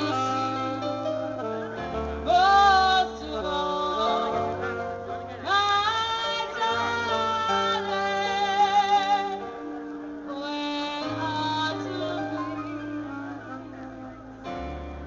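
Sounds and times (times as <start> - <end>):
woman singing: 0.0 - 14.8
double bass: 0.0 - 15.0
keyboard: 0.0 - 15.0
saxophone: 0.0 - 15.0.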